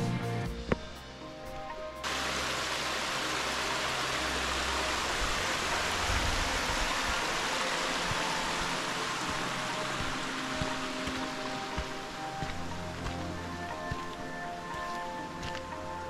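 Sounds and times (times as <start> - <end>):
mountain stream rushing: 2.0 - 16.0.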